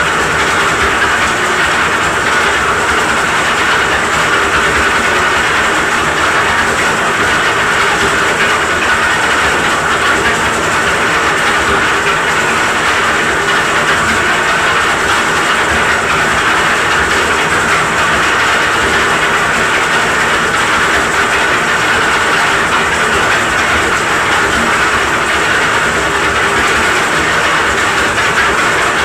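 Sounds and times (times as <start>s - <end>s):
concrete mixer engine running: 0.0s - 29.0s.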